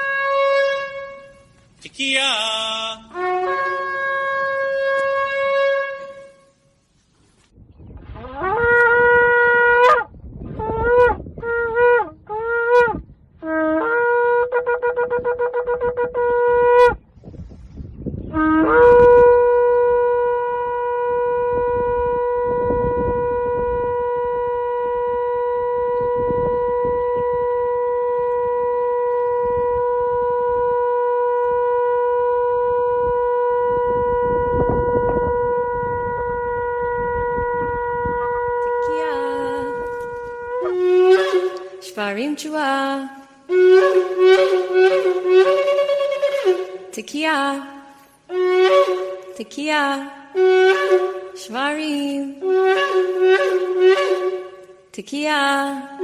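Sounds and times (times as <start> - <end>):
ram's horn blowing: 0.0 - 6.9, 8.1 - 17.0, 18.3 - 54.9.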